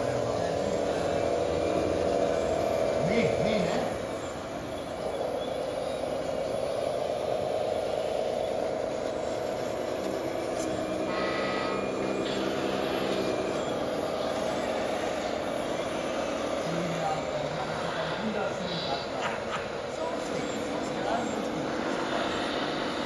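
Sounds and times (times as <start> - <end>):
higher-pitched tones: 0.0 - 23.0
toy vehicle motors whining: 0.0 - 23.0.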